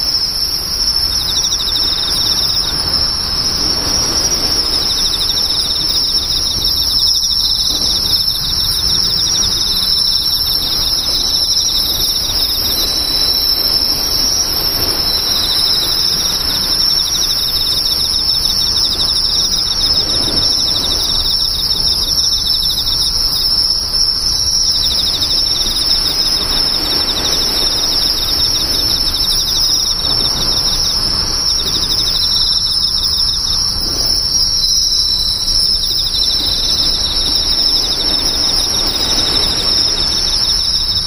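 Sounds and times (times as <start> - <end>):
crickets trilling: 0.0 - 41.0.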